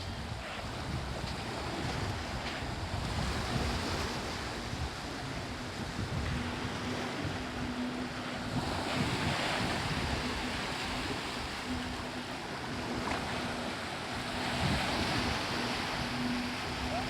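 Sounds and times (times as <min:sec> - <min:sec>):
sea waves breaking on beach: 0:00.0 - 0:17.0
wind buffeting microphone: 0:00.0 - 0:17.0.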